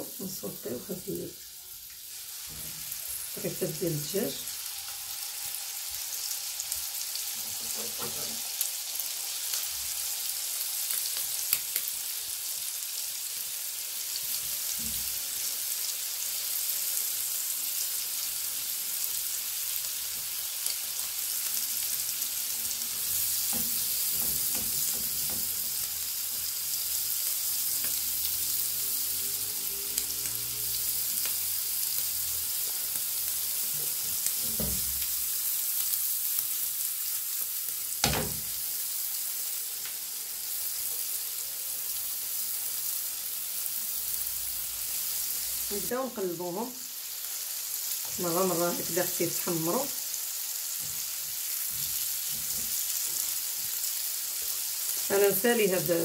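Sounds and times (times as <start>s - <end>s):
chicken sizzling in frying pan: 0.0s - 56.0s.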